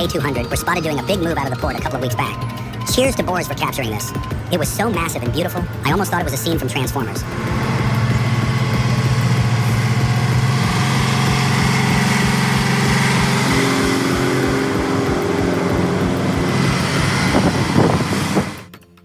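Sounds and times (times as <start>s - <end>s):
truck diesel engine under load: 0.0s - 18.8s.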